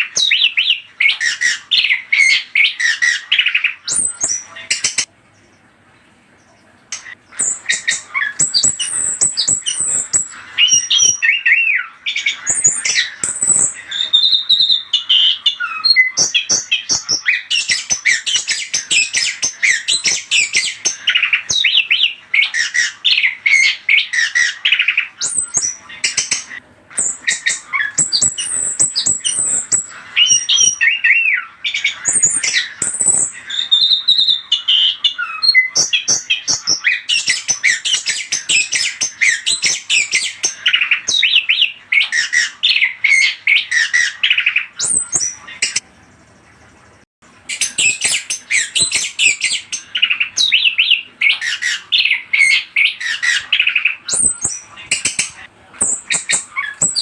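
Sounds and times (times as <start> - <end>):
harsh bird chattering: 0.0 - 5.1, 6.4 - 45.8, 47.5 - 57.0
thrush singing whistled song: 0.0 - 5.6, 6.9 - 57.0.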